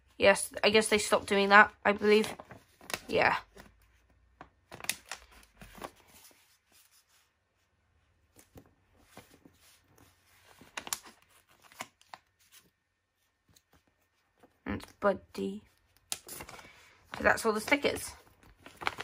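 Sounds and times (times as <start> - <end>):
paper rustling and crinkling: 1.0 - 14.7, 15.6 - 19.0.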